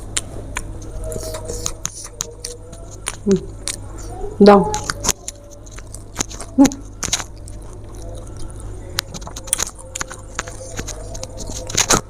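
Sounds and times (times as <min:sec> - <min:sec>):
chewing and mouth clicks: 0:00.0 - 0:12.0.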